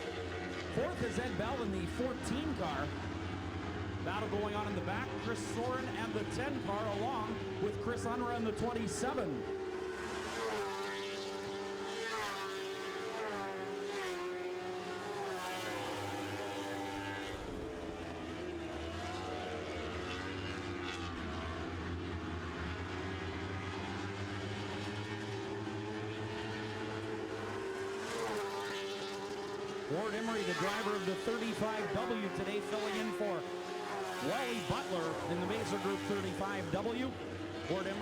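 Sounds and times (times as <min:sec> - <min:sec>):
race car engines at high revs: 0:00.0 - 0:38.0.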